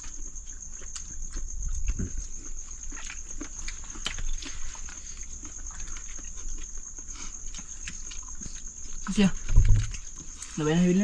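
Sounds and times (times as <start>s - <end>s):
chewing and lip smacks: 0.0s - 10.6s.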